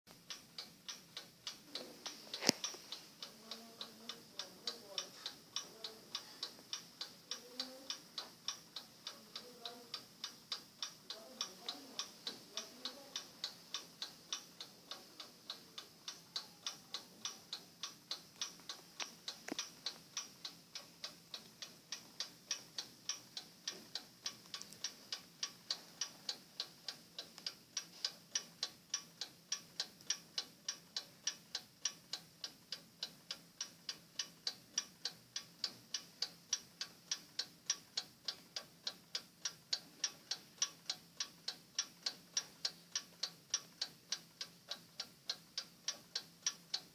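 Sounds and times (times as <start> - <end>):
clock ticking: 0.1 - 46.9.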